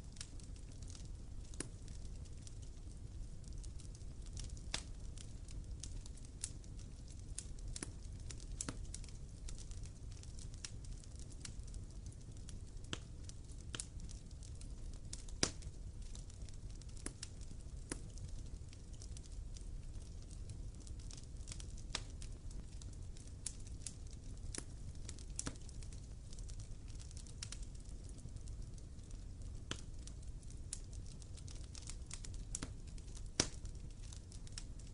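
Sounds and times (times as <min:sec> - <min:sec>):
low rumble of flame: 0:00.0 - 0:34.9
wood fire crackling and popping: 0:00.0 - 0:34.9.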